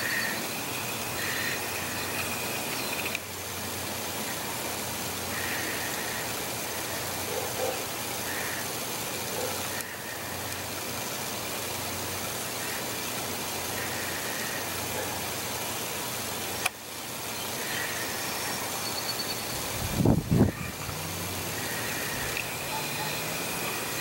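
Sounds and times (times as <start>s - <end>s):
low mechanical hum with hiss: 0.0s - 24.0s.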